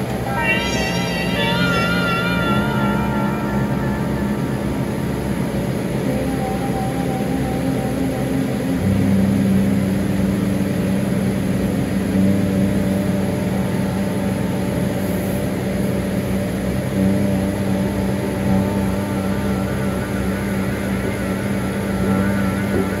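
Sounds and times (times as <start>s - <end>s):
engine drone with low hum: 0.0s - 23.0s.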